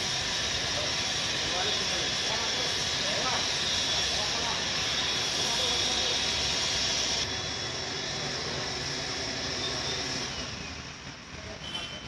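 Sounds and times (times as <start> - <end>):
spray pump hissing: 0.0 - 10.6.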